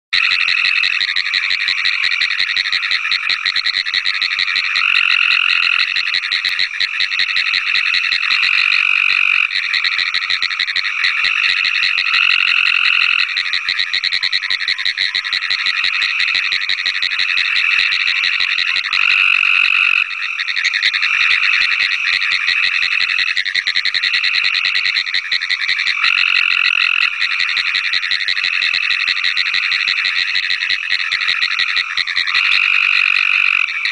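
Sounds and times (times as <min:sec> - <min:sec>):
buzzy frog trills: 0:00.2 - 0:33.9
fast clicking frog chorus: 0:00.2 - 0:33.9.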